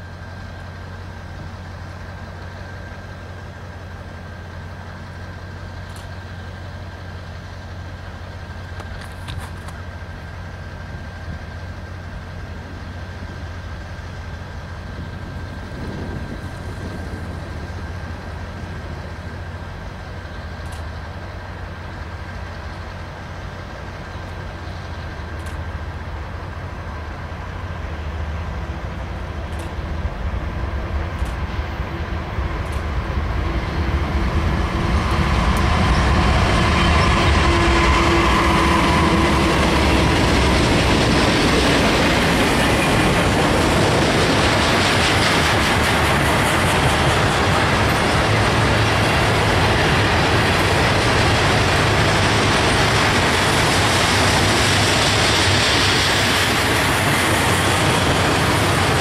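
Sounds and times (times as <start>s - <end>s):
locomotive engine rumble: 0.0s - 59.0s
train wheel clatter: 0.0s - 59.0s.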